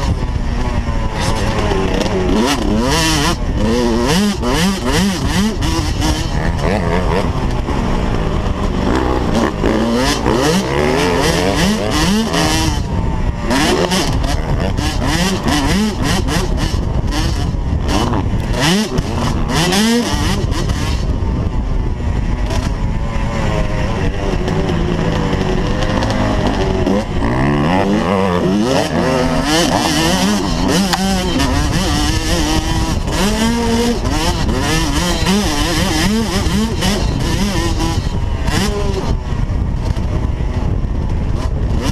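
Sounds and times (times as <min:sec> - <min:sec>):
steady low rumble: 0:00.0 - 0:34.9, 0:35.8 - 0:41.9
motocross bike engine revving: 0:00.0 - 0:41.9.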